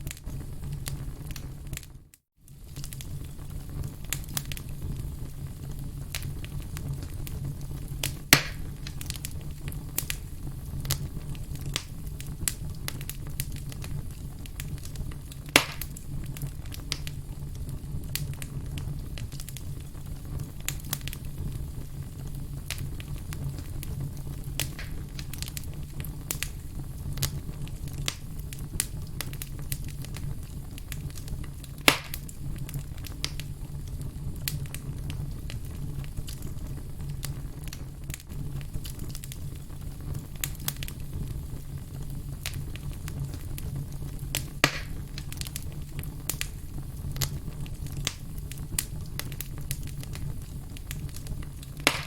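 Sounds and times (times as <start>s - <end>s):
campfire crackling: 0.0s - 52.0s
fire popping: 0.0s - 52.0s.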